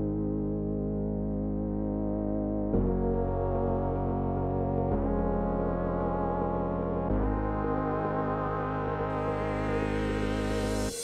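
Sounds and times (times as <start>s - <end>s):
slow sustained chord: 0.0s - 11.0s.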